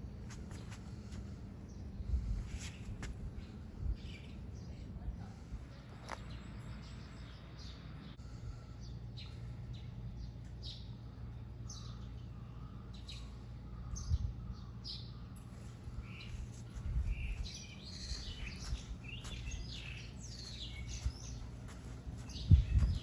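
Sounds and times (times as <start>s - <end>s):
steady low rumble: 0.0s - 23.0s
birds chirping: 0.4s - 23.0s.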